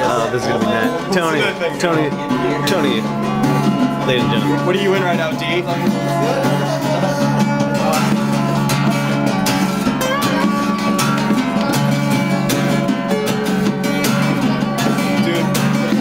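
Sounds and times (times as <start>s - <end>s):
electronic keyboard playing: 0.0s - 16.0s
strummed plucked strings: 0.0s - 16.0s.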